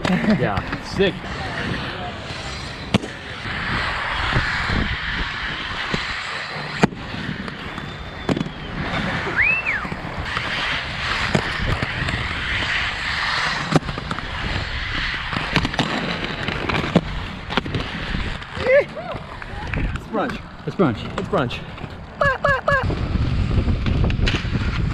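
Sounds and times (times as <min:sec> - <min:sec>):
skates cracking on concrete: 0:00.0 - 0:22.2
inline skate wheels rolling: 0:00.0 - 0:24.9.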